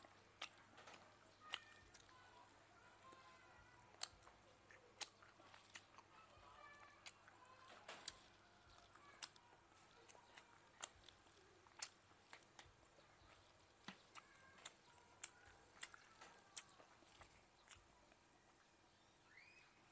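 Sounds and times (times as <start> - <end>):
mouth clicks: 0.0 - 17.9
chewing crunches: 0.0 - 18.2.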